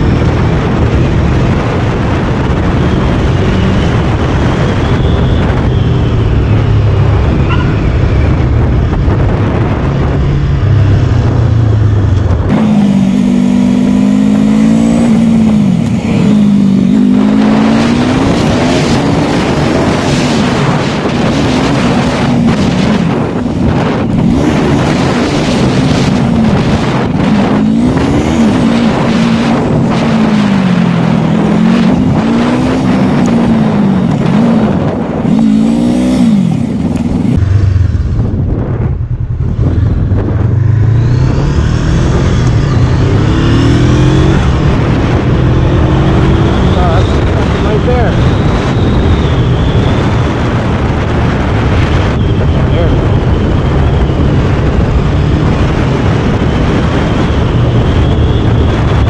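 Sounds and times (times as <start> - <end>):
motorcycle engine revving: 0.0 - 59.0
wind noise on microphone: 0.0 - 59.0.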